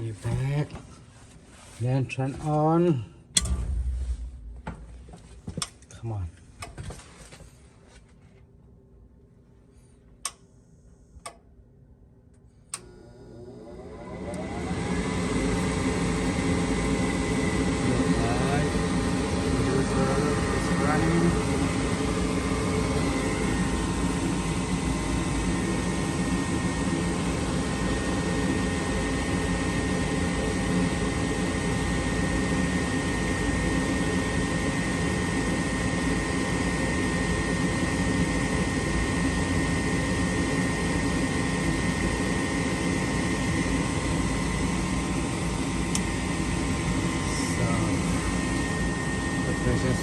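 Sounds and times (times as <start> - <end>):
furnace motor whirring hum: 0.0 - 7.7, 9.6 - 50.0.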